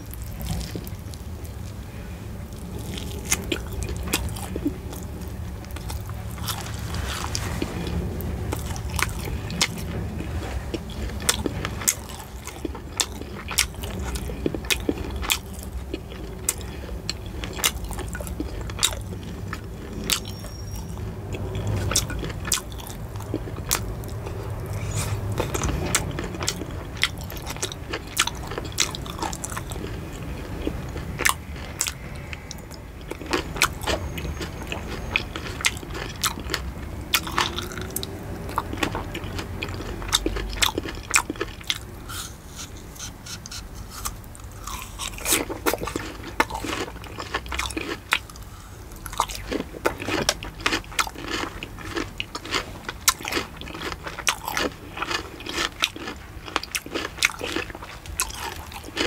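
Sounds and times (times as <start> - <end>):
food crunching: 0.0 - 59.0
wet chewing: 0.0 - 59.0.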